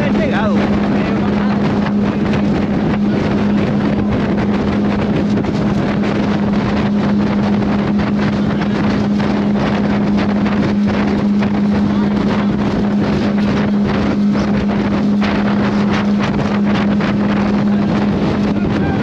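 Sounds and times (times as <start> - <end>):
motorboat engine droning: 0.0 - 19.0
wind buffeting microphone: 0.0 - 19.0.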